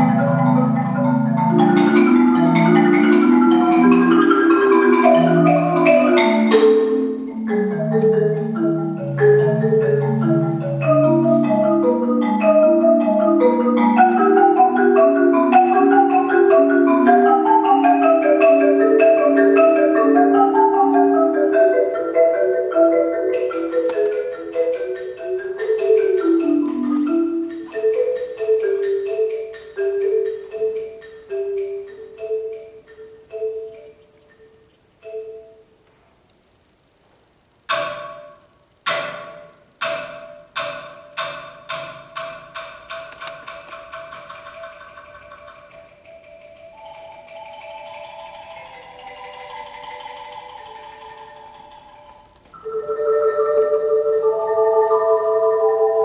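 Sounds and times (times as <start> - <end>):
marimba playing quick notes: 0.0 - 35.6, 37.7 - 56.0.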